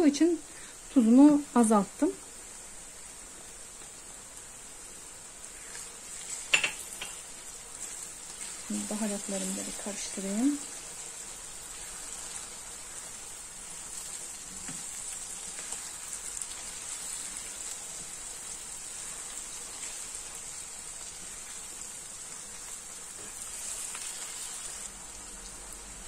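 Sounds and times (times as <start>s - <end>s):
rice frying in oil: 0.0s - 26.0s.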